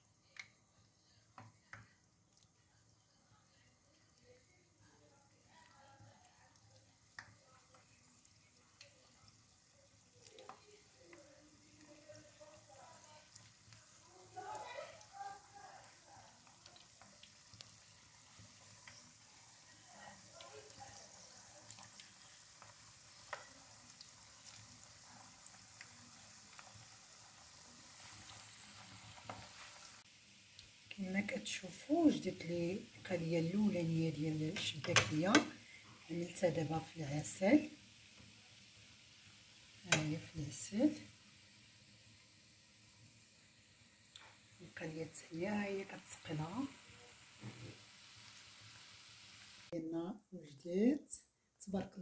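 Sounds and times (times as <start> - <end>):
dough deep-frying in hot oil: 0.0 - 49.8.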